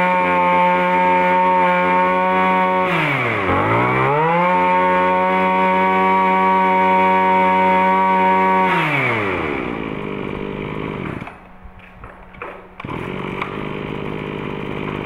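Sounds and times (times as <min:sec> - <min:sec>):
brush cutter engine revving and idling: 0:00.0 - 0:11.4, 0:12.8 - 0:15.0.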